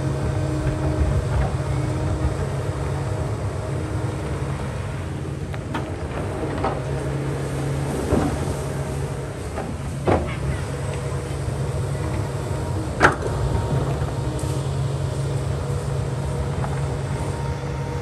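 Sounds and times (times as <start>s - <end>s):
excavator diesel engine under load: 0.0s - 18.0s.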